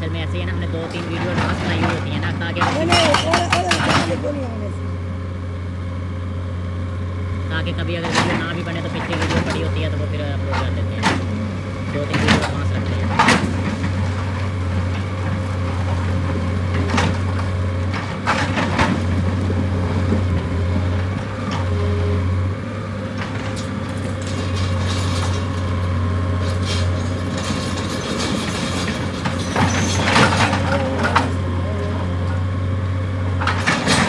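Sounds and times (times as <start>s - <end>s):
diesel engine droning: 0.0s - 34.0s
knocks and clatter: 0.3s - 4.7s, 7.9s - 34.0s.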